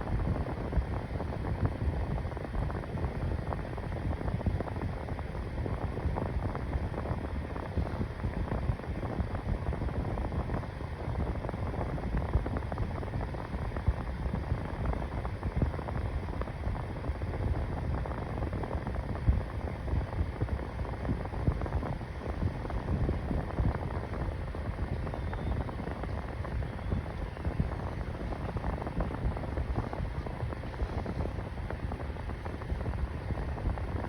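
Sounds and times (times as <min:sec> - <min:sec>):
air buffeting microphone: 0:00.0 - 0:34.0
box fan rushing air: 0:00.0 - 0:34.0.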